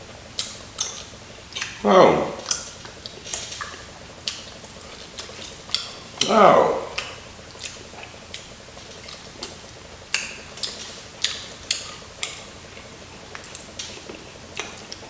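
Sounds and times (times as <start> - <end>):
crunching of fried chicken chewed: 0.2 - 15.0.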